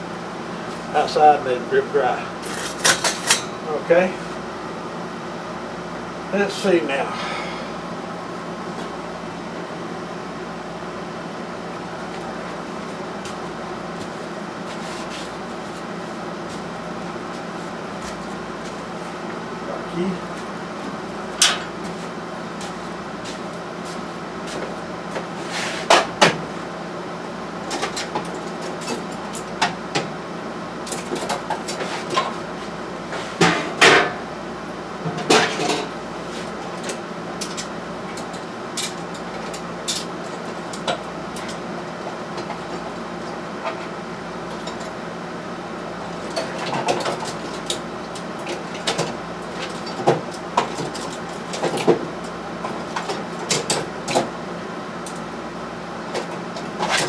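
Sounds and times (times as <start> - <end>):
steady background hum: 0.0 - 57.0.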